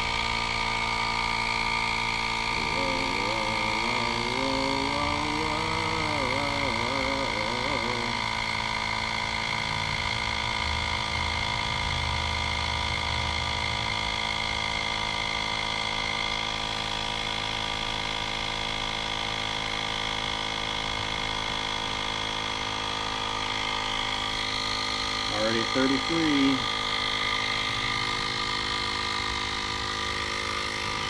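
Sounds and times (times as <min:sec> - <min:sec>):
electric tire inflator humming: 0:00.0 - 0:31.0.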